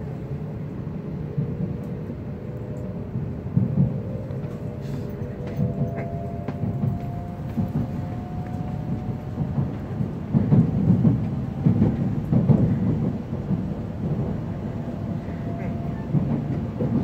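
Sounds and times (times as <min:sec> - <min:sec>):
low rumble of train running: 0:00.0 - 0:17.0.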